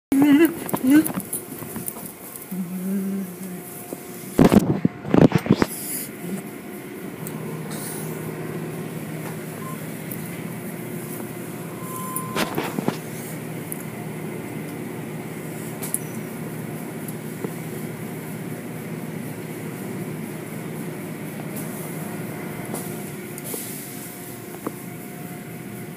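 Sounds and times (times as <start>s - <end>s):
car wash machine hum: 0.1s - 25.9s.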